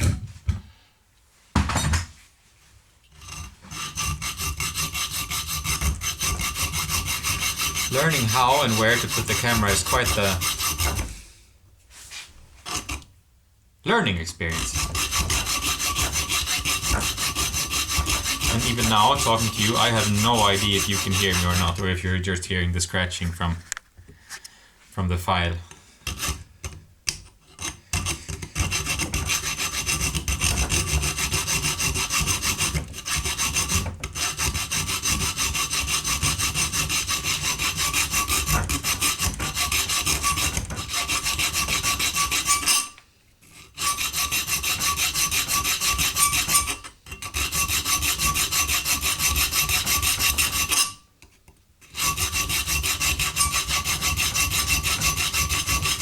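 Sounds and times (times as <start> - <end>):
hand file scratching workpiece: 3.1 - 11.3, 12.6 - 13.1, 14.4 - 23.5, 26.0 - 56.0.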